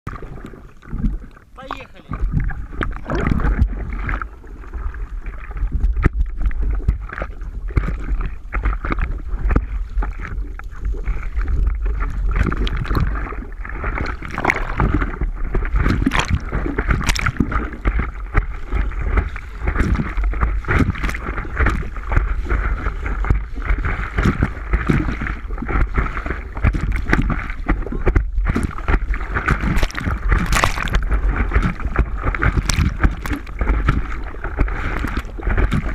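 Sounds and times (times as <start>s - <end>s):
water splashing and sloshing: 0.1s - 35.9s
wind buffeting microphone: 0.9s - 35.9s.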